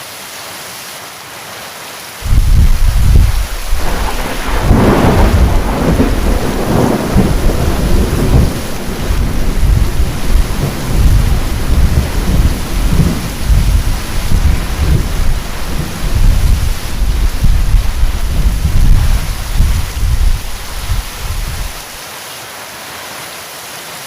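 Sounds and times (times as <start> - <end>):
heavy rain falling: 0.0 - 24.0
low rumbling: 2.2 - 21.9
thunder rolling: 2.2 - 21.9.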